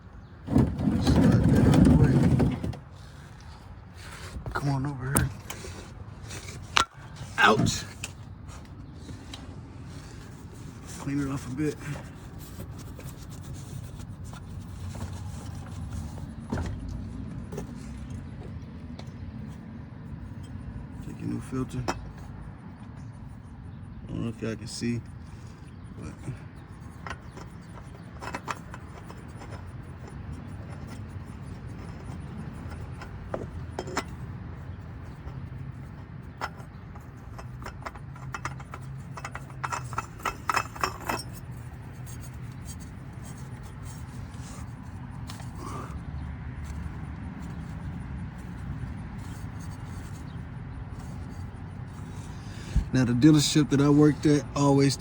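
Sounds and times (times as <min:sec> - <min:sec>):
oil filter clicks and rubbing: 0:00.5 - 0:23.8, 0:25.0 - 0:55.0.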